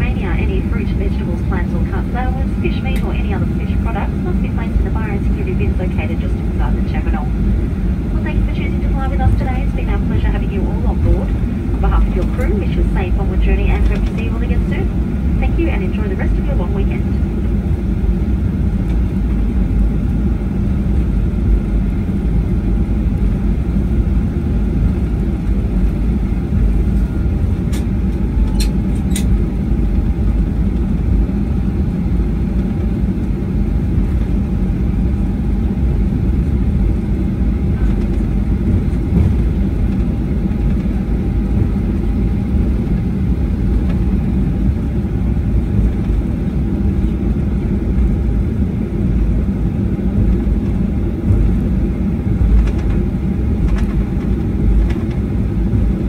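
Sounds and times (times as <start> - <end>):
jet engines at taxi power: 0.0 - 56.0.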